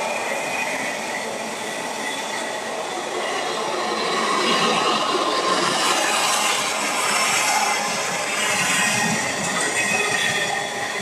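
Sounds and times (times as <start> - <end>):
freight train passing: 0.0 - 11.0.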